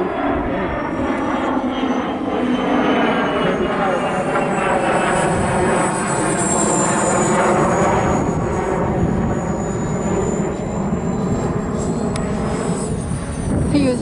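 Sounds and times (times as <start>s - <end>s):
model jet ducted fans whining: 0.0s - 14.0s.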